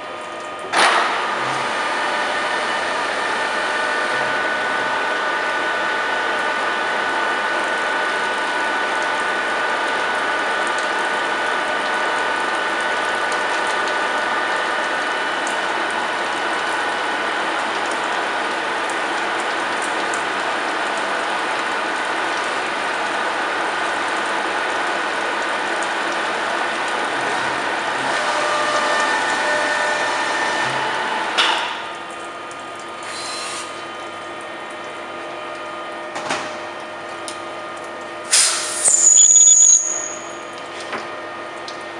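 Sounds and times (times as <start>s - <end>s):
milling machine whirring: 0.0s - 18.2s, 21.3s - 38.8s.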